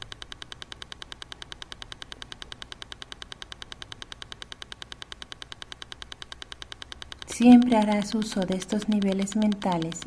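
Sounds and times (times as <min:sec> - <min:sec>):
fast electronic ticking pulse: 0:00.0 - 0:10.0.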